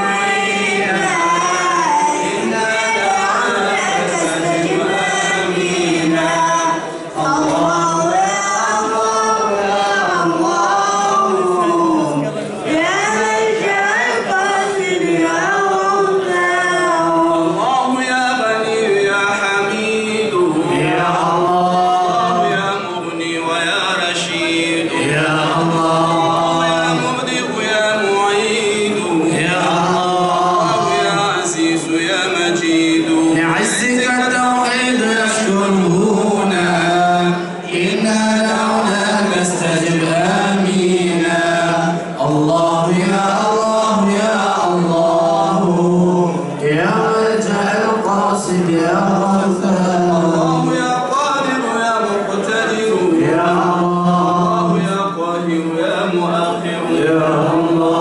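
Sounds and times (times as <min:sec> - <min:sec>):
voices chanting devotional song: 0:00.0 - 0:58.0.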